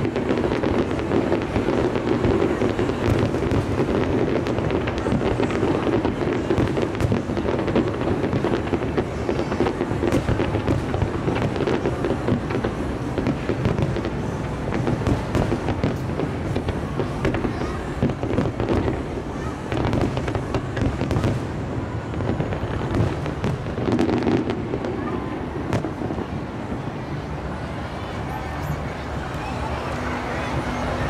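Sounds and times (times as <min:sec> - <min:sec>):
fireworks bursts and crackling: 0:00.0 - 0:31.0.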